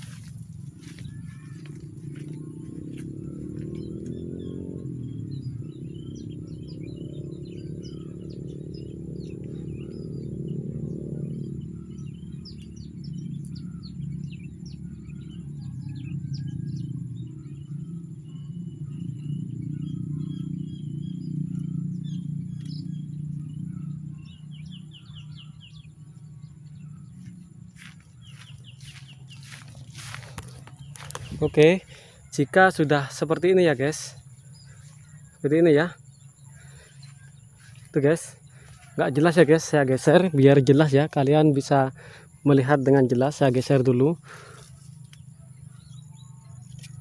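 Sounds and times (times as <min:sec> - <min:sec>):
low steady drone: 0:00.0 - 0:47.0
small birds chirping: 0:00.0 - 0:47.0.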